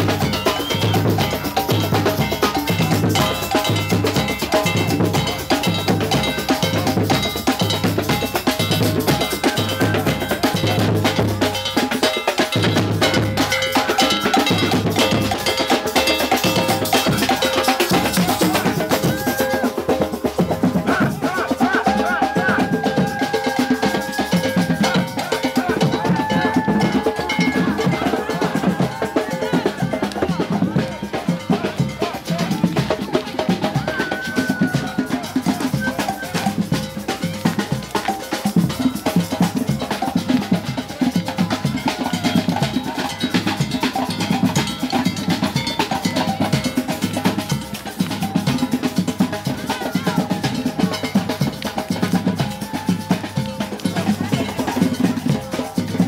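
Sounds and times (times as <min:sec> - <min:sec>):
fast busy drumming: 0:00.0 - 0:56.0.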